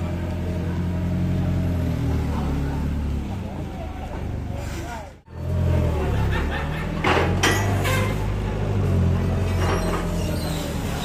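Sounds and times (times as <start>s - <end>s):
forklift engine idling: 0.0s - 11.0s.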